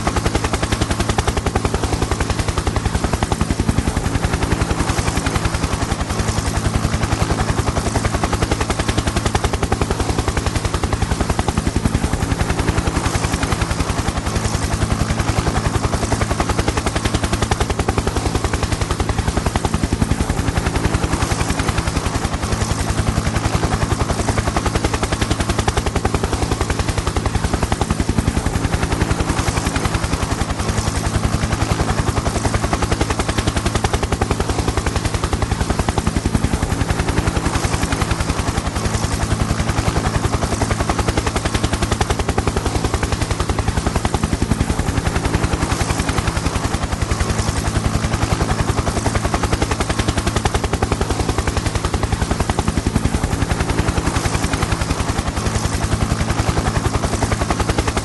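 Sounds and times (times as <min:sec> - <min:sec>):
helicopter rotor blades chopping: 0:00.0 - 0:58.0.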